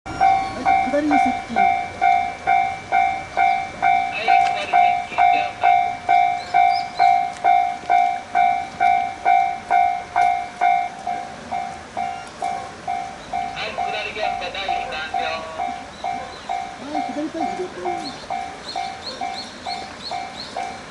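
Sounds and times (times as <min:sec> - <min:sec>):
level crossing warning bell: 0:00.1 - 0:20.9.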